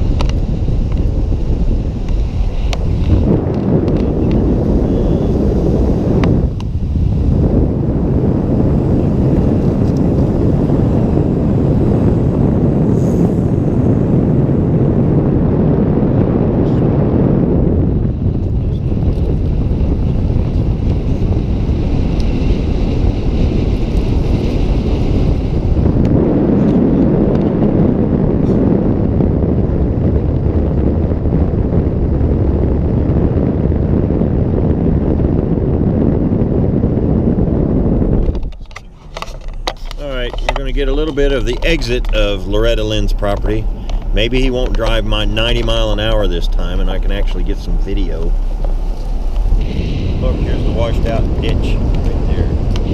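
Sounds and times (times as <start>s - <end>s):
road and wind noise: 0.0s - 52.9s.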